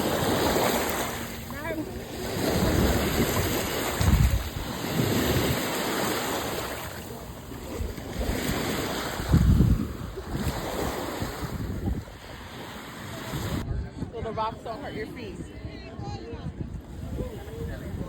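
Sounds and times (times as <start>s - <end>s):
surf washing on shore: 0.0s - 15.4s
wind buffeting microphone: 0.0s - 18.0s.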